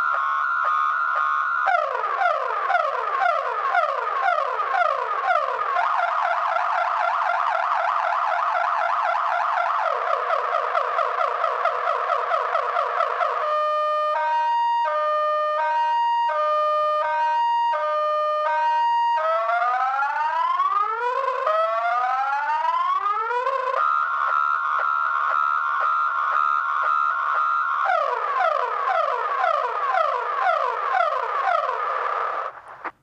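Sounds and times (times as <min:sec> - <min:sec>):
car alarm siren: 0:00.0 - 0:32.9.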